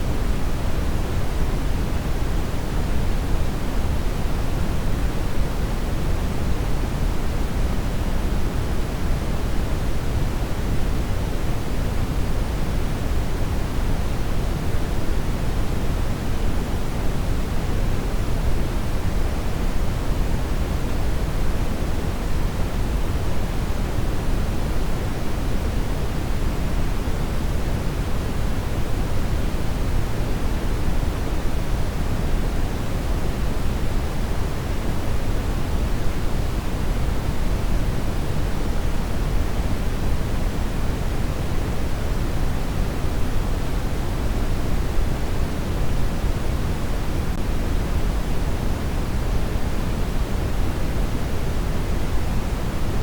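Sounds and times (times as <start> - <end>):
steady synthetic noise hiss: 0.0 - 53.0.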